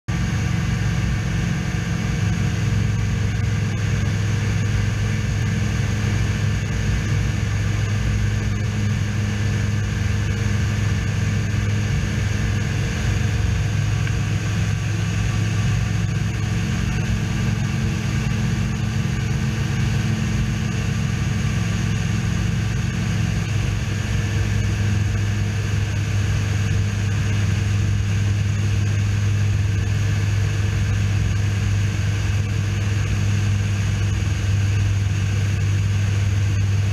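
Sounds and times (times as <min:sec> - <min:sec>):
aircraft engine droning: 0:00.1 - 0:36.9.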